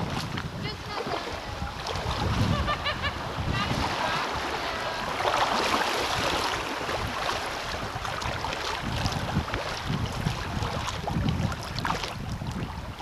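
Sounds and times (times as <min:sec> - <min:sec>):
paddle strokes splashing: 0:00.0 - 0:13.0
river water rushing and splashing: 0:00.0 - 0:13.0
wind buffeting microphone: 0:00.0 - 0:13.0.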